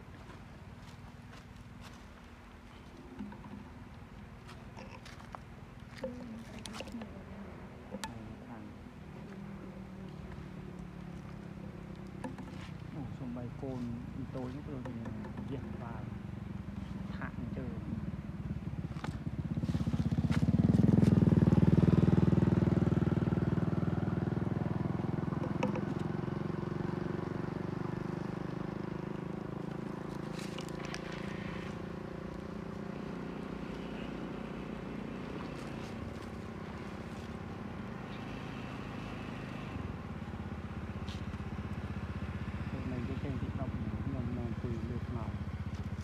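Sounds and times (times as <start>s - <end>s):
low engine rumble: 0.0s - 46.0s
vehicle passing by: 6.5s - 46.0s.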